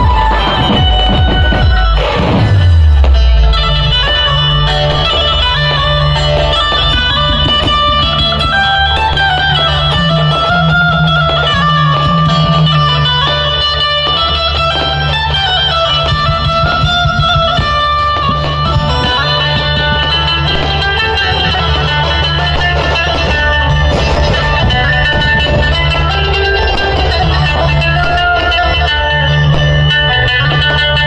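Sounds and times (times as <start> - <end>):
driving drum beat: 0.0 - 31.0
heavy booming bass: 0.0 - 31.0
plucked string melody: 0.0 - 31.0.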